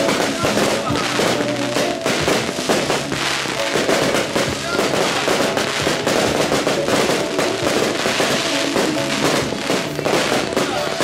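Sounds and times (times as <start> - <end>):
fireworks bursting and crackling: 0.0 - 11.0
music with sustained tones: 0.0 - 11.0.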